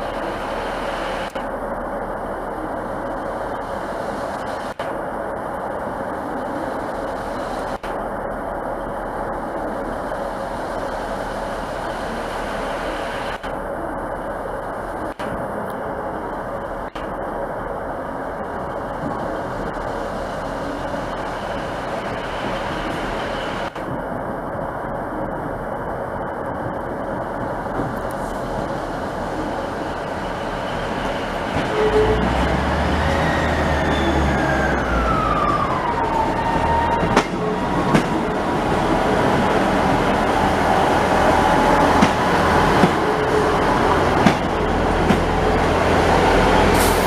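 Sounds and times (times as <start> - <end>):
train running: 0.0 - 47.0.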